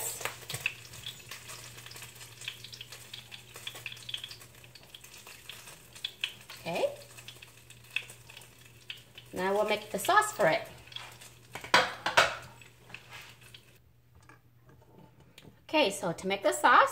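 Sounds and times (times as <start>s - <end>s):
hot oil crackling and popping: 0.0s - 13.8s.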